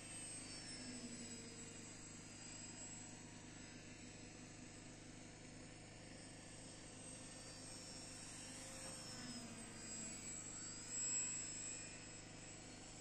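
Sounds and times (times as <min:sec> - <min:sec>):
model plane propeller whine: 0:00.0 - 0:13.0.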